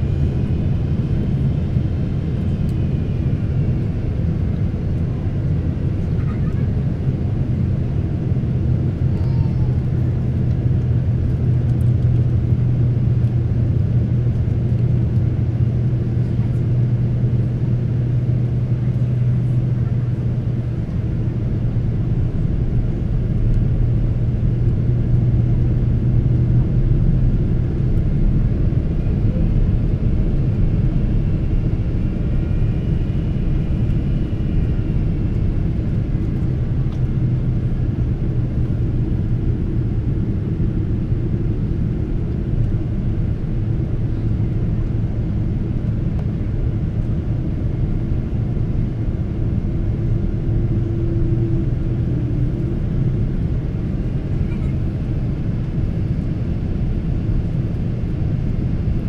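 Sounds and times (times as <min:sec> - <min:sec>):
airliner cabin engine rumble: 0:00.0 - 0:59.0
steady low hum: 0:00.0 - 0:59.0.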